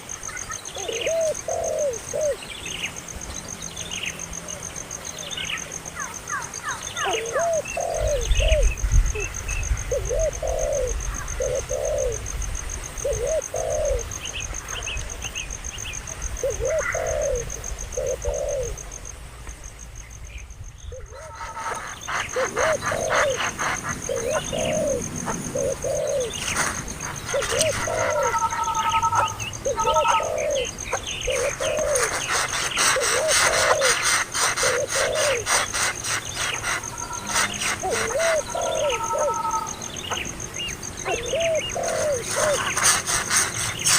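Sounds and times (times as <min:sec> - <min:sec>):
dove cooing: 0:00.0 - 0:02.5, 0:06.0 - 0:12.3, 0:13.0 - 0:14.8, 0:16.3 - 0:18.9, 0:20.9 - 0:40.4, 0:41.0 - 0:43.9
birds chirping: 0:00.0 - 0:19.1, 0:19.7 - 0:43.9.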